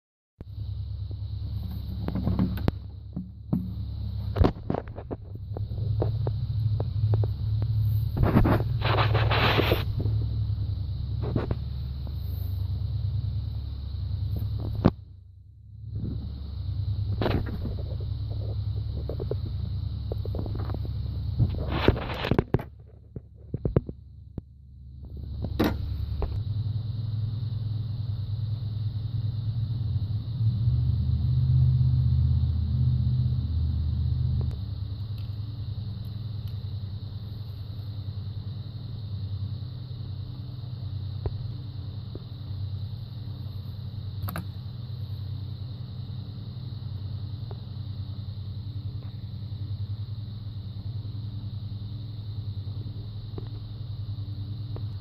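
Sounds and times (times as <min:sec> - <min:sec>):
car engine idling: 0:00.4 - 0:55.0.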